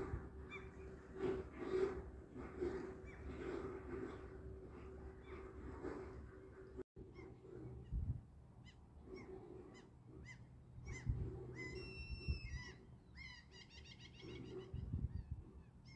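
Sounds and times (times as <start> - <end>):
waterbirds calling: 0.0 - 15.9.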